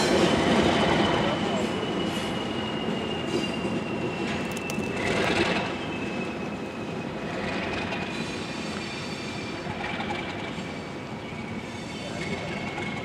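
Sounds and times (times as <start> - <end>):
diesel locomotive running: 0.0 - 13.0.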